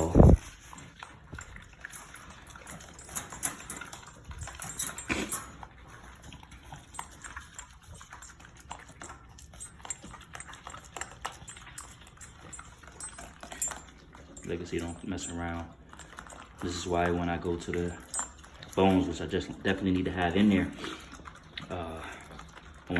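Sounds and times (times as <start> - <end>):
dogs eating wet food: 0.0 - 22.9.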